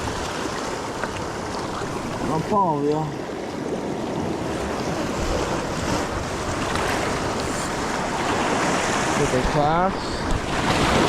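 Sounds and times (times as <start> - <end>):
ocean surf washing on shore: 0.0 - 11.0
wind buffeting microphone: 1.4 - 11.0.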